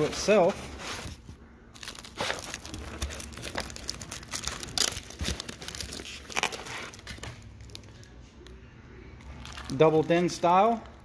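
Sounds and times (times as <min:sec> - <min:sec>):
plastic wrapping crinkling: 0:01.0 - 0:08.5, 0:09.2 - 0:11.0.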